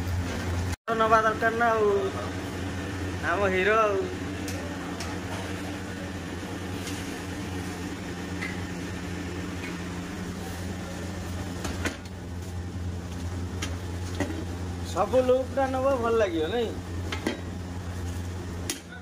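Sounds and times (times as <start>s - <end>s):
kitchen exhaust fan hum: 0.0s - 19.0s.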